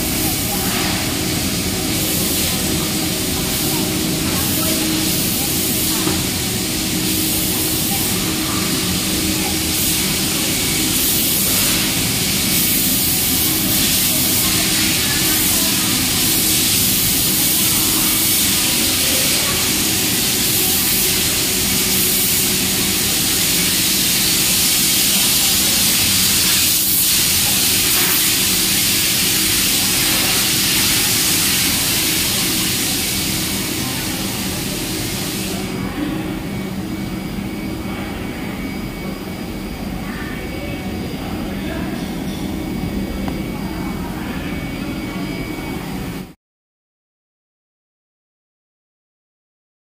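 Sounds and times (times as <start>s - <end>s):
cooling fans rushing: 0.0s - 46.4s.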